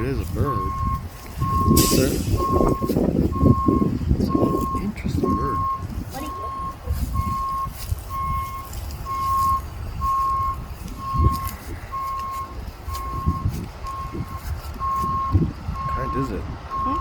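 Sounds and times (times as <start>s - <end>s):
electronic alarm beeping: 0.4s - 17.0s.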